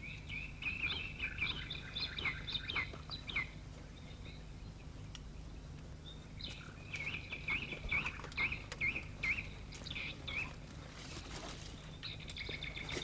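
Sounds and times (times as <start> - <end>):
bird chirping: 0.0 - 13.0
low steady hum: 0.0 - 13.0.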